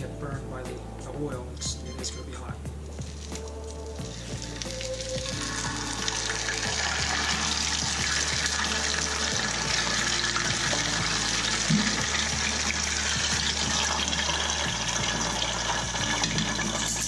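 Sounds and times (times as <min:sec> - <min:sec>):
fish sizzling in hot oil: 0:02.9 - 0:17.0.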